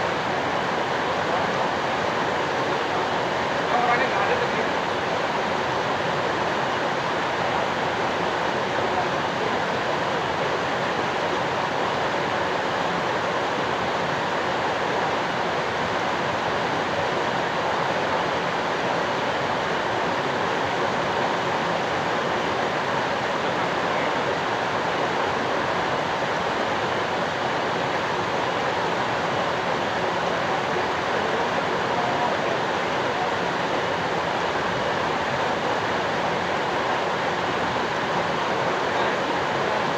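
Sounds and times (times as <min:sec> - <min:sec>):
falling water rushing: 0:00.0 - 0:39.9.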